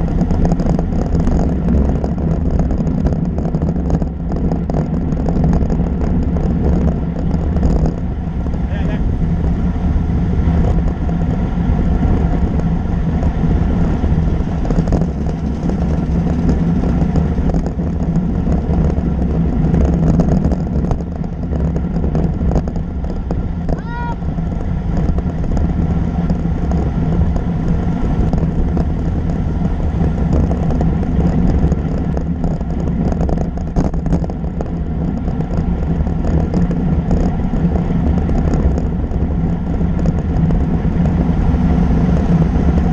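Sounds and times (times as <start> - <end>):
bicycle tyres on asphalt: 0.0 - 42.9
wind rush: 0.0 - 42.9.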